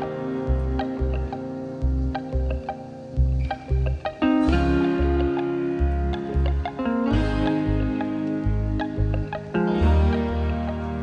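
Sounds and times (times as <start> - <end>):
plucked guitar: 0.0 - 11.0.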